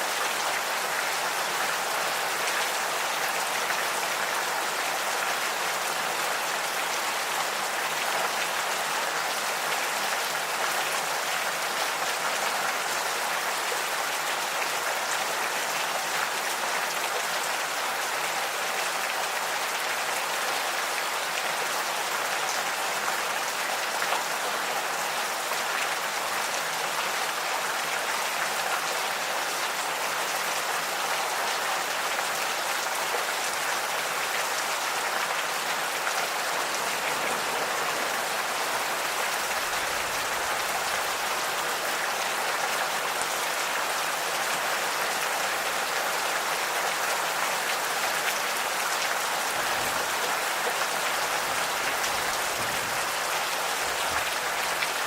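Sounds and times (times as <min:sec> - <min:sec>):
gentle rain patter: 0:00.0 - 0:55.0.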